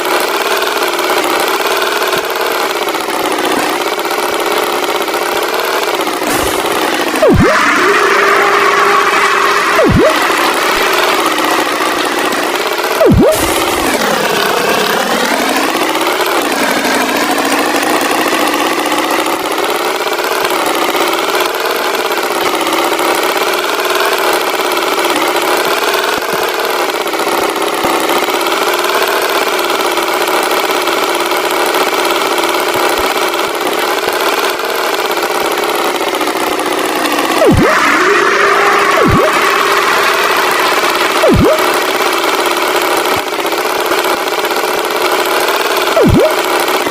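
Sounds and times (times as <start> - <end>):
tractor engine revving: 0.0 - 46.9.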